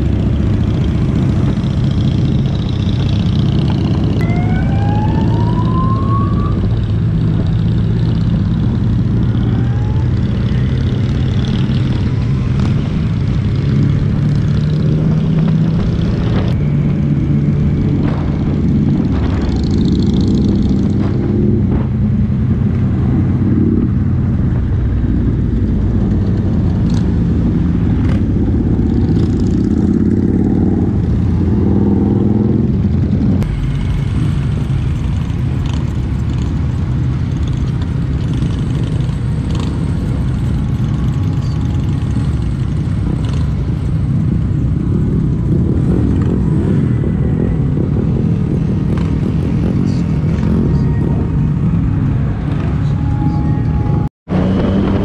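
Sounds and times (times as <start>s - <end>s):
motorcycle engine running: 0.0s - 4.6s, 6.7s - 55.0s
other motorcycles nearby: 0.0s - 55.0s.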